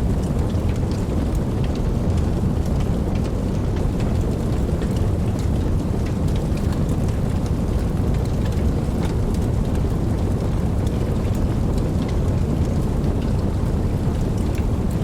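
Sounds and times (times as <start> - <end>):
deep continuous rumble: 0.0 - 15.0
steady rain: 0.0 - 15.0.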